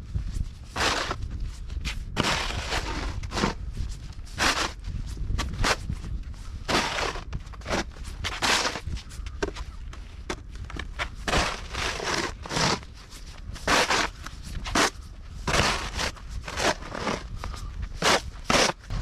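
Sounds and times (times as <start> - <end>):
steady low rumble: 0.0 - 19.0
footsteps crunching through snow: 0.2 - 19.0.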